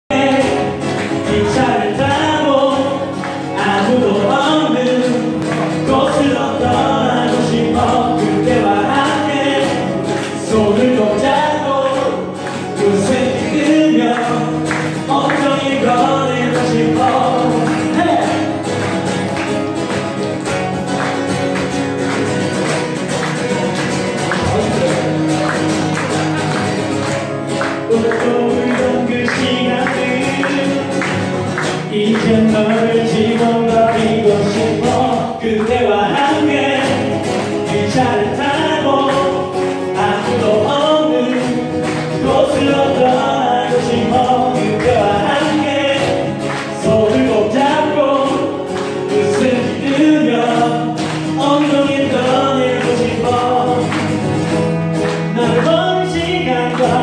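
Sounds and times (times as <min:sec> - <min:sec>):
person singing: 0:00.0 - 0:18.9, 0:26.3 - 0:57.0
acoustic guitar: 0:00.0 - 0:57.0
audience clapping along: 0:00.1 - 0:57.0.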